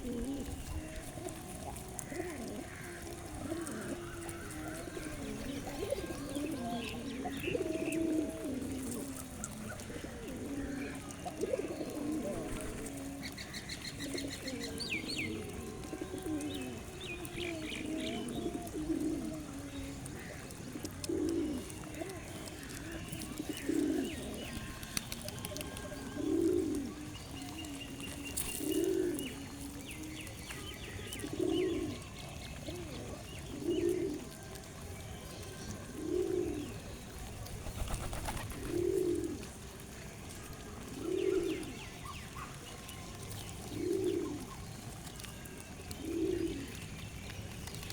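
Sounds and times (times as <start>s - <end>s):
small birds chirping: 0.0s - 39.6s
pigeon cooing: 0.0s - 47.9s.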